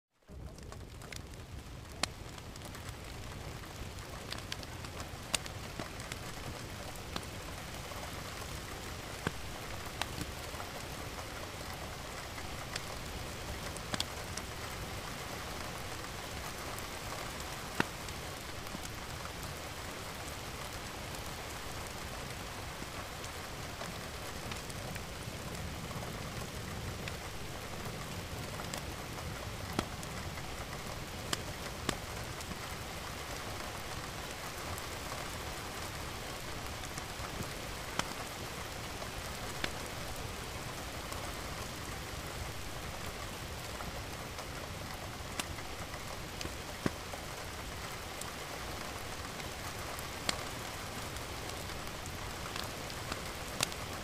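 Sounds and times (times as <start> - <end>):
steady rain falling: 0.1 - 54.0.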